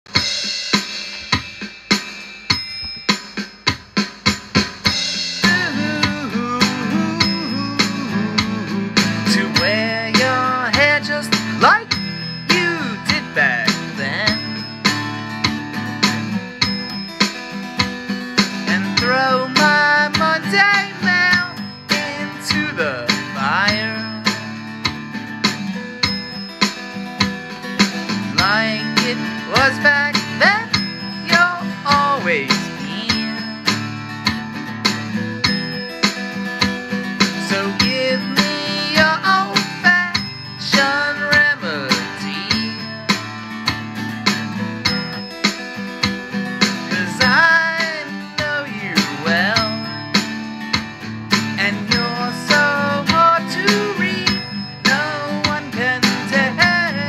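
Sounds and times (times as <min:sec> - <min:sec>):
drum beat: 0:00.1 - 0:57.0
bass: 0:04.2 - 0:57.0
guitar sliding notes: 0:04.9 - 0:57.0.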